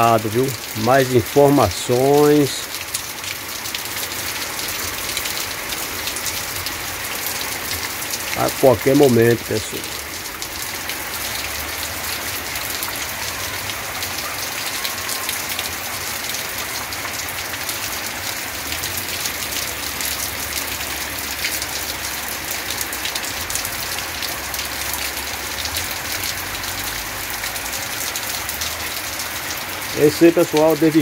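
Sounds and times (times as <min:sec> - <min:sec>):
rain falling on tiles and paving: 0:00.0 - 0:31.0.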